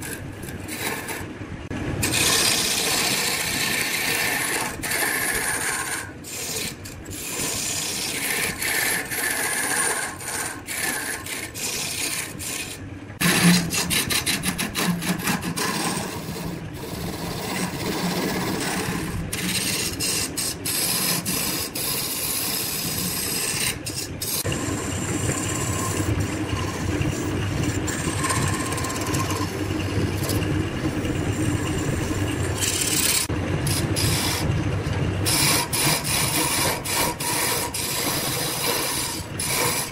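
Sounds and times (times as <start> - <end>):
chisel scraping spinning wood: 0.0 - 1.4, 2.0 - 39.9
low motor hum: 0.0 - 39.9.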